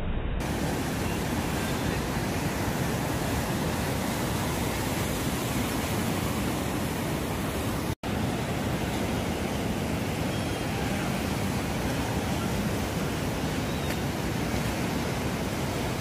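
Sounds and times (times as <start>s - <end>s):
waves breaking: 0.4s - 16.0s.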